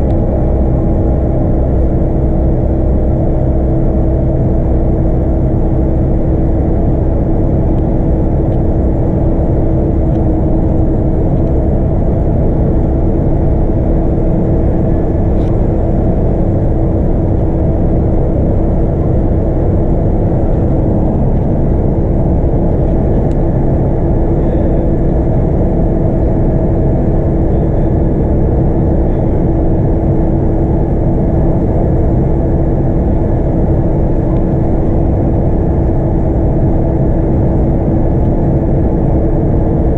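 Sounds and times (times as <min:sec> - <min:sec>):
bus diesel engine running: 0:00.0 - 0:39.9
road rumble: 0:00.0 - 0:39.9
steady whine: 0:00.0 - 0:39.9.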